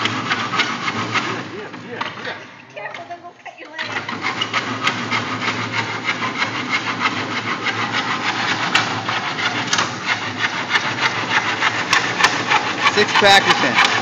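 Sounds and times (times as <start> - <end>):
handsaw cutting wood: 0.0 - 1.9, 3.8 - 14.0.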